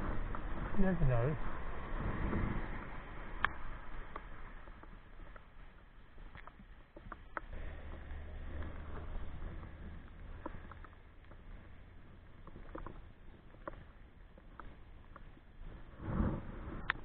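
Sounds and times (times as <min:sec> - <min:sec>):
rain pattering: 0:00.0 - 0:15.8
low rumble: 0:00.0 - 0:17.0.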